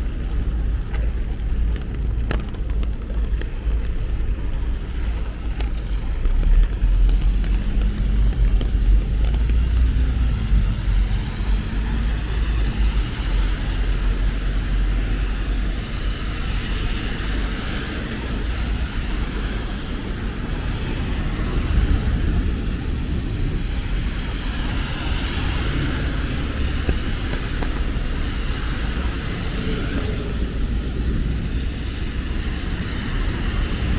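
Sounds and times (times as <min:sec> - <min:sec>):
car tyres hissing on wet road: 0:00.0 - 0:33.9
low rumble of engines: 0:00.0 - 0:33.9.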